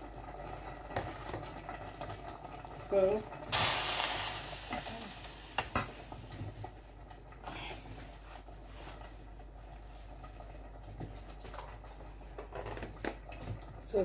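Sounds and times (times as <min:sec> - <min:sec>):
faint kitchen clatter: 0:00.0 - 0:14.0.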